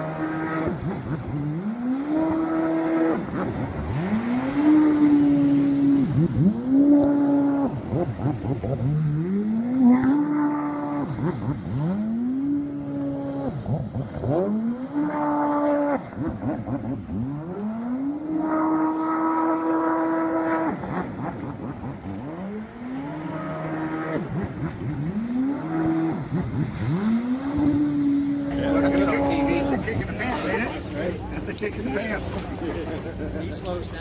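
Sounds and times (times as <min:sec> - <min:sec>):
engine revving hard: 0:00.0 - 0:31.4.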